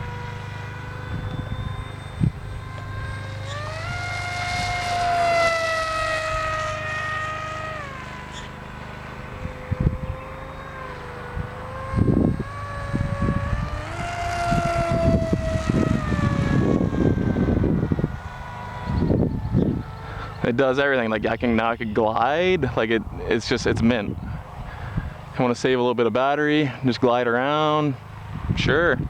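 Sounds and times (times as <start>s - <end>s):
wind rumbling on microphone: 0.0s - 25.8s, 28.1s - 29.0s
model plane motor whine: 0.0s - 29.0s.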